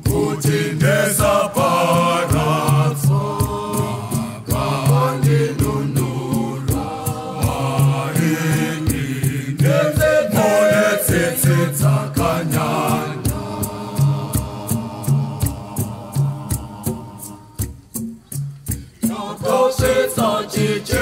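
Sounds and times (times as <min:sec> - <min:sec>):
choir singing a hymn: 0:00.0 - 0:17.6, 0:19.0 - 0:21.0.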